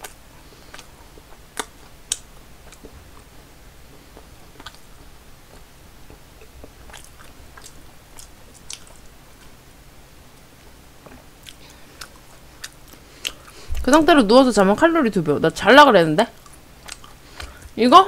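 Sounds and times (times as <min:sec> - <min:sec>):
person chewing food: 0:00.0 - 0:09.6, 0:10.3 - 0:13.8, 0:16.4 - 0:17.8.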